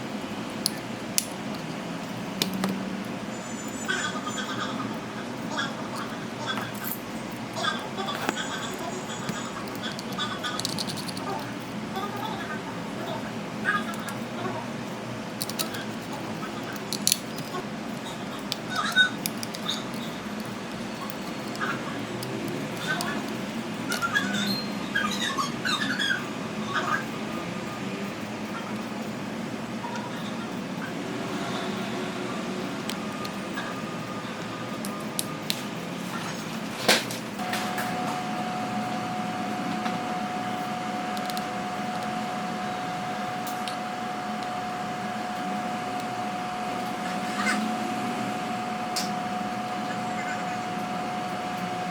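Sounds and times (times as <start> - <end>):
low background hum: 0.0 - 51.9
steady high whine: 0.0 - 51.9.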